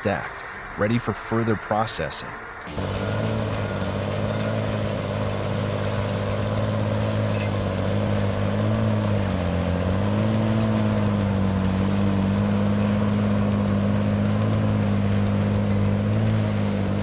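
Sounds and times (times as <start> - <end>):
machine engine humming: 2.6 - 17.0.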